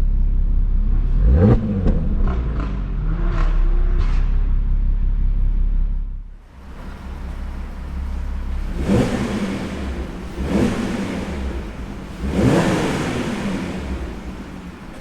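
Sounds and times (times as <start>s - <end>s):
car engine revving: 0.8s - 4.6s, 6.4s - 15.0s.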